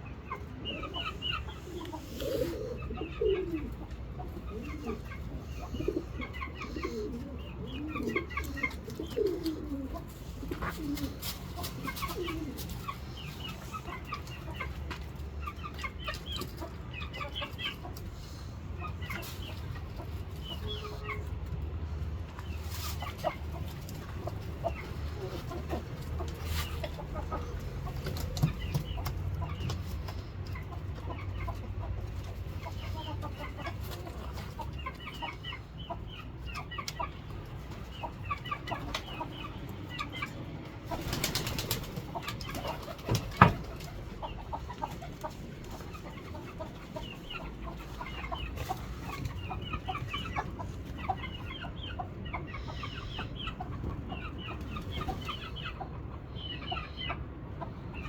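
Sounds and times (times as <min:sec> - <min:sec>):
chickens calling: 0:00.0 - 0:58.0.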